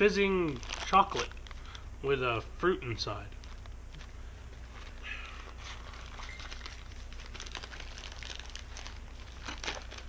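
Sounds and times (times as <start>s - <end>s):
candy wrapper crinkling: 0.0s - 1.9s, 3.1s - 10.0s.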